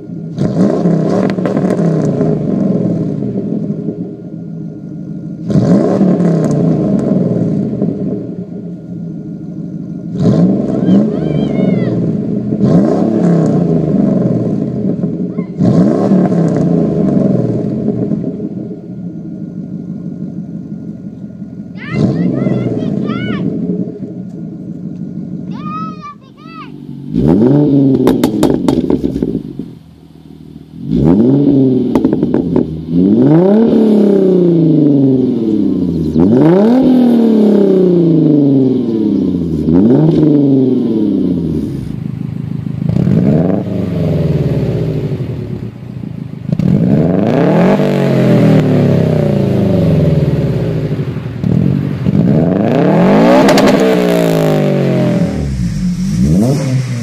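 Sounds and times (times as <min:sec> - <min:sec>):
car engine revving: 0:00.0 - 0:57.0
four-cylinder engine revving: 0:00.0 - 0:57.0.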